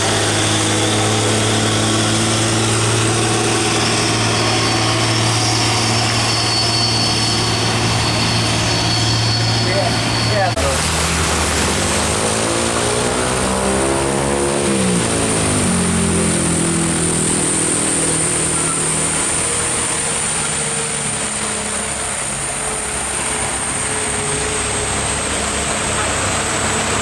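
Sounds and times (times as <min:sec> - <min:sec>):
high-pitched whine: 0:00.0 - 0:27.0
truck diesel engine labouring: 0:00.0 - 0:27.0.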